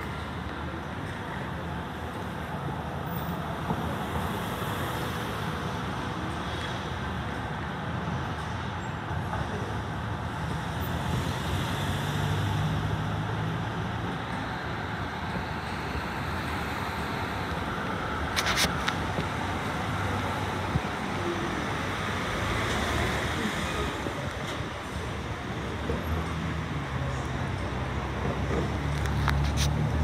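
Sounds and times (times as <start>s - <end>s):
city street traffic: 0.0s - 30.0s
tram approaching on tracks: 0.0s - 30.0s.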